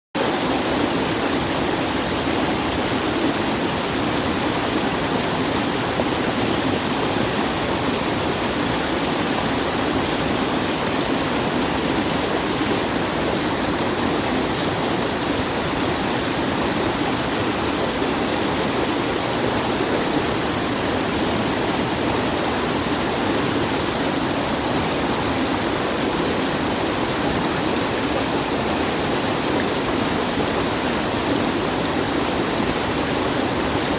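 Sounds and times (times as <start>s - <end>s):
rushing water: 0.2s - 33.9s.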